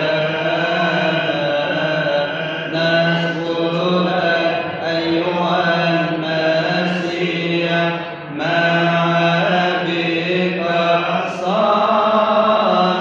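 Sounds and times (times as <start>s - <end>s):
person chanting ornamented notes: 0.0s - 13.0s.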